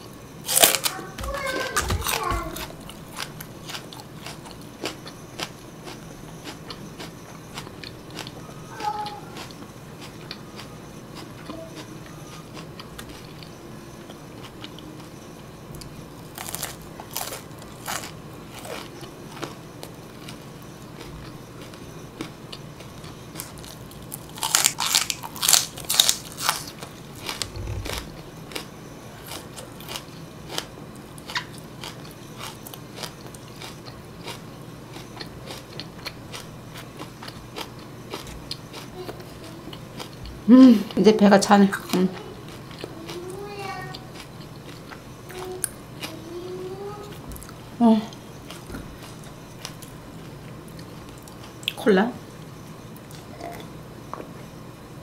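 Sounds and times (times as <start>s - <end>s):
crunchy chewing: 0.0s - 41.0s, 41.7s - 54.5s.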